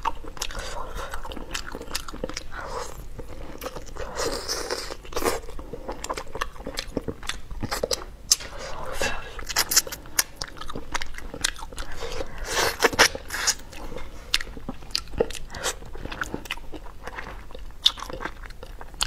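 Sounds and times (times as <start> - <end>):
biting and chewing with crunches: 0.0 - 8.6, 9.2 - 19.0.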